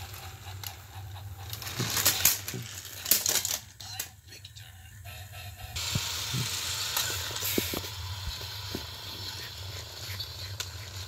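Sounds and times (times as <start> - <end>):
toy train motors whirring: 0.0 - 11.0.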